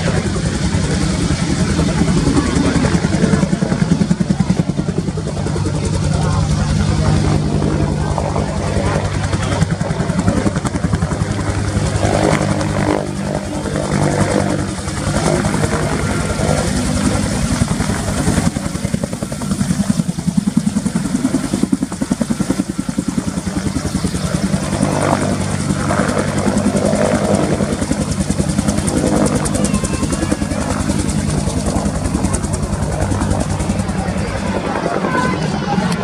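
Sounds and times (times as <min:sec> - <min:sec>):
helicopter rotor beating: 0:00.0 - 0:36.0
turbine engine whine: 0:00.0 - 0:36.0.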